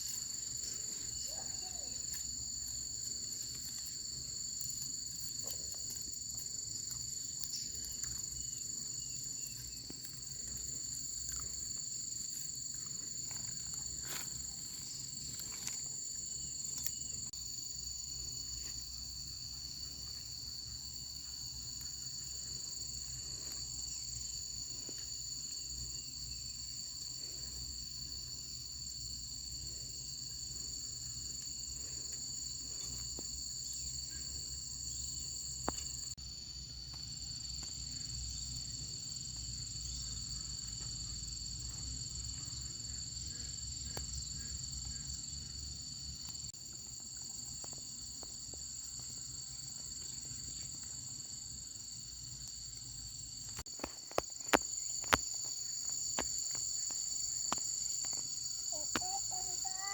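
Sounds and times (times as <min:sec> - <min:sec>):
insect chorus chirring: 0:00.0 - 0:59.9.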